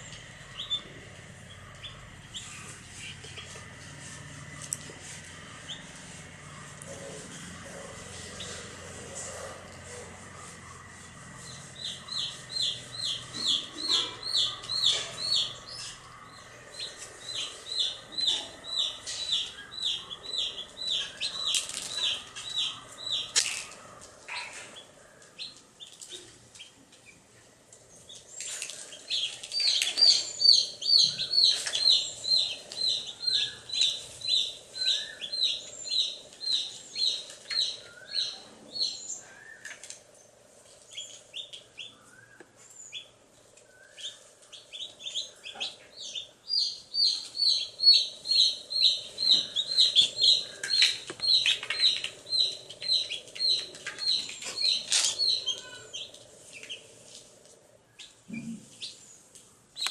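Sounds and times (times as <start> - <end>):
baby chicks peeping: 0.0 - 27.2, 27.9 - 57.3, 58.0 - 59.9
fainter chirps of other chicks: 0.0 - 27.2, 28.0 - 40.0, 40.6 - 57.3, 58.0 - 59.9.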